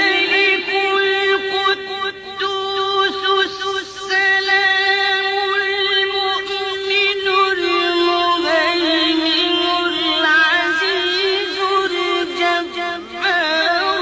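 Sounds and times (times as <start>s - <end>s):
solo voice chanting: 0.0s - 14.0s.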